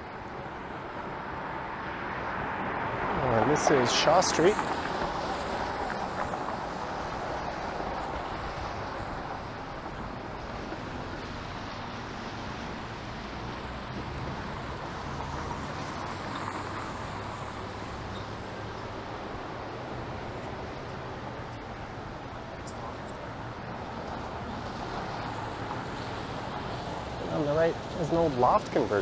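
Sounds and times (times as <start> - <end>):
cars passing: 0.0 - 29.0
tyres hissing on wet pavement: 2.0 - 29.0.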